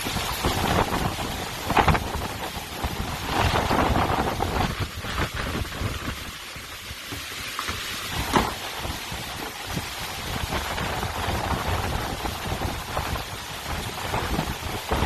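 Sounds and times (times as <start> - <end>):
storm wind gusts on microphone: 0.0 - 15.0
wind-driven rain: 0.0 - 15.0.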